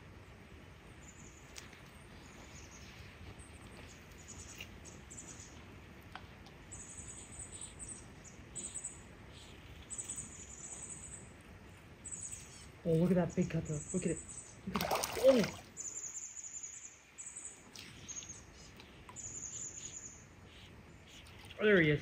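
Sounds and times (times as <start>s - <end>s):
small birds chirping and trilling: 0.8s - 5.7s, 6.6s - 22.0s.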